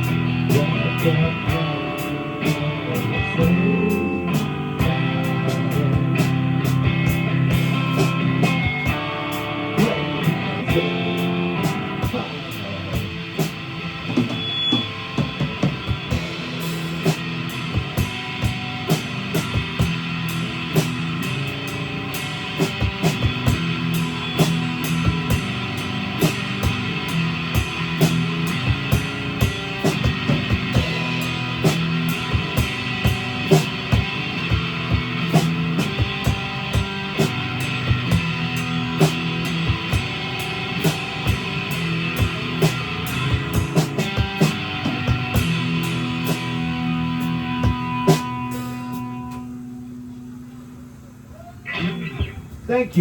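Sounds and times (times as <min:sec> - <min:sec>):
electric guitar: 0:00.0 - 0:53.0
drum and cymbal hits: 0:04.3 - 0:49.6.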